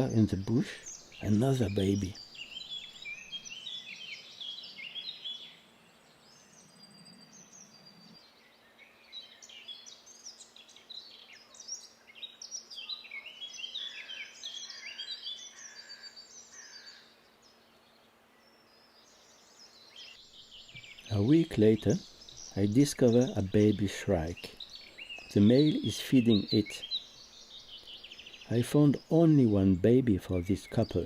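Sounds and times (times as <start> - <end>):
songbird singing chirps and trills: 0.0 - 31.0.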